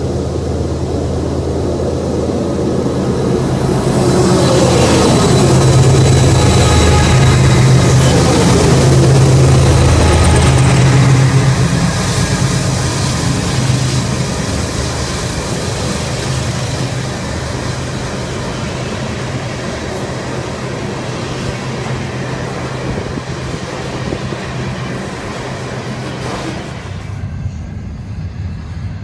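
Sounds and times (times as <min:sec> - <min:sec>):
freight train rumbling and rattling: 0:00.0 - 0:29.0.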